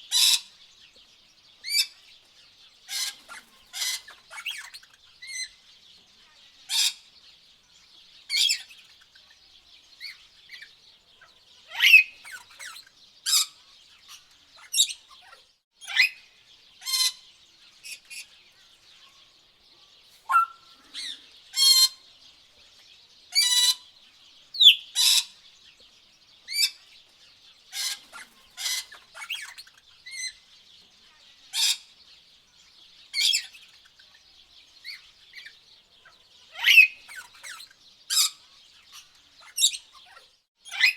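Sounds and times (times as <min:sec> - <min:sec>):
tropical birds squawking: 0:00.0 - 0:00.7, 0:02.8 - 0:05.6, 0:06.6 - 0:07.1, 0:08.3 - 0:22.2, 0:23.3 - 0:25.6, 0:26.4 - 0:32.1, 0:33.1 - 0:40.9.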